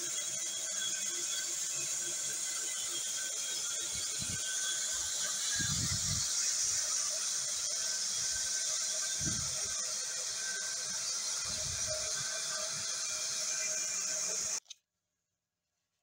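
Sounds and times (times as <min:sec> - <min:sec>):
band saw cutting timber: 0:00.0 - 0:14.6.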